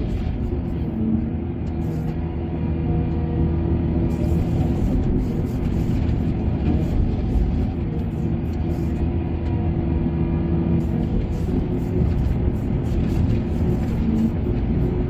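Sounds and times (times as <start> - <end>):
diesel machinery droning: 0.0 - 15.0.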